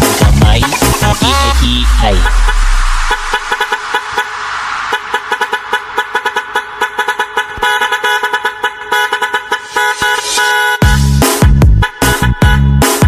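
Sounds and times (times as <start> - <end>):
stuttering truck horn blasts: 1.4 - 13.0.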